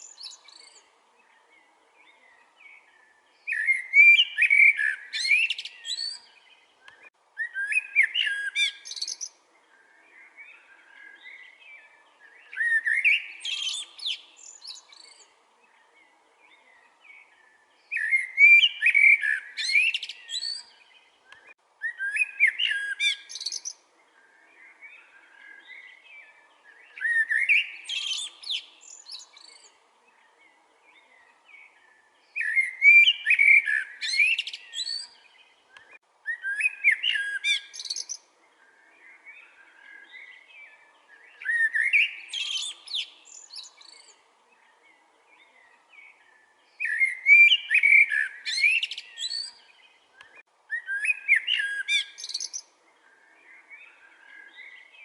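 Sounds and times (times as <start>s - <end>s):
songbird singing whistled phrases: 0.0s - 0.9s, 2.0s - 15.9s, 16.5s - 30.3s, 30.9s - 44.7s, 45.4s - 55.0s
soft bird chirps: 0.0s - 55.0s.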